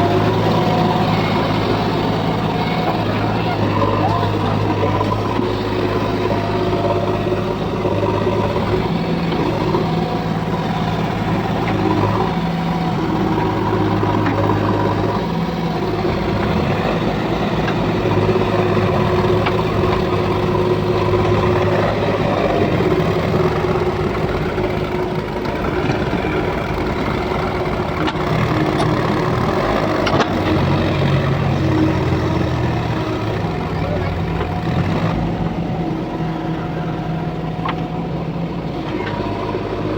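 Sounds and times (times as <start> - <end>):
diesel engines running under load: 0.0 - 39.9.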